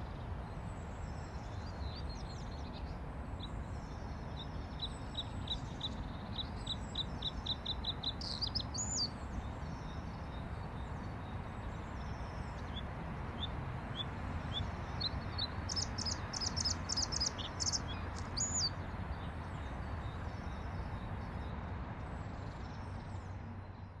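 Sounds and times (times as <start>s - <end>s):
bird singing: 0.0s - 21.6s.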